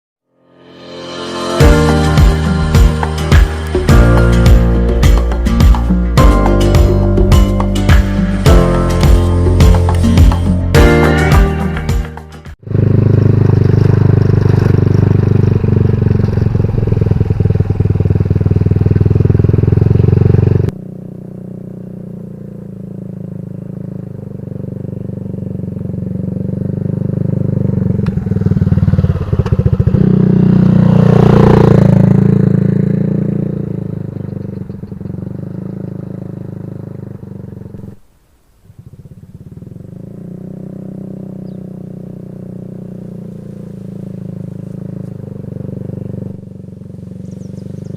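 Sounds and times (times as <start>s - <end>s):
motorcycle engine running: 0.9s - 47.9s.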